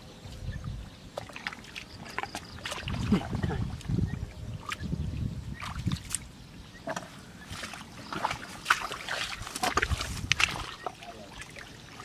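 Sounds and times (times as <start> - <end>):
muddy water splashing: 0.3 - 12.0.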